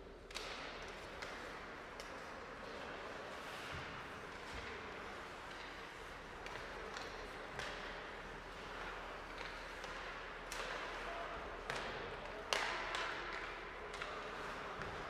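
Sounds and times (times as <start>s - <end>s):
hockey sticks hitting puck: 0.1s - 15.0s.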